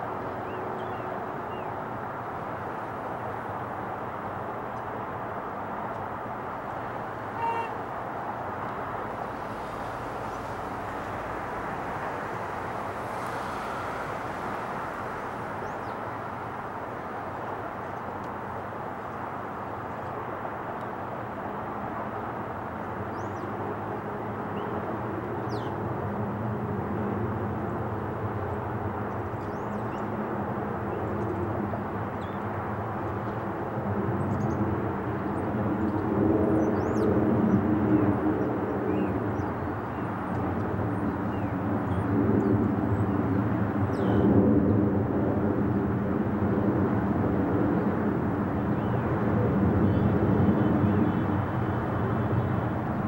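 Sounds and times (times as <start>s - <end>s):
distant jet engines droning: 0.0s - 53.0s.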